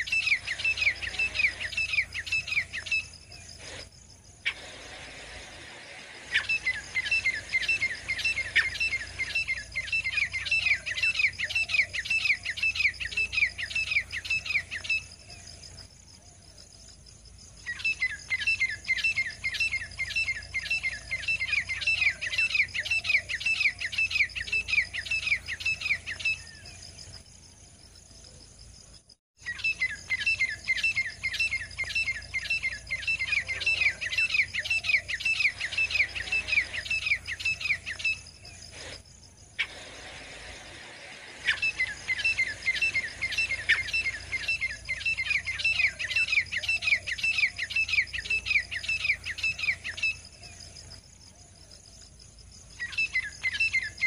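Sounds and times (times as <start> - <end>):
francolin calling: 0.0 - 5.1, 6.2 - 27.0, 29.4 - 40.2, 41.3 - 54.0.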